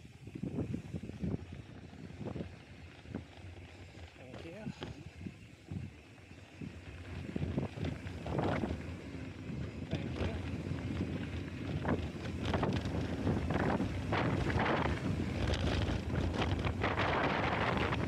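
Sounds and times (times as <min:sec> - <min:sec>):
tyre noise on dirt: 0:00.0 - 0:18.0
wind buffeting microphone: 0:00.2 - 0:03.4, 0:04.5 - 0:18.0.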